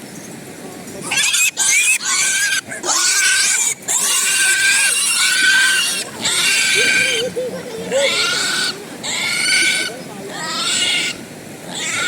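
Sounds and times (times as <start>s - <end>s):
pigs squealing: 1.0s - 12.0s.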